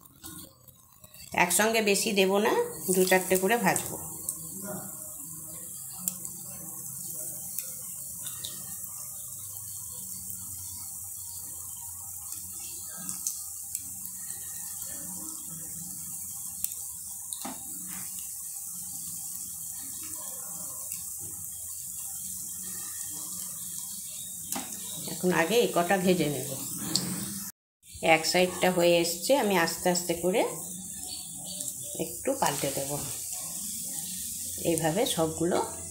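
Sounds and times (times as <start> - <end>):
hot oil sizzling in a pan: 0.0 - 35.9.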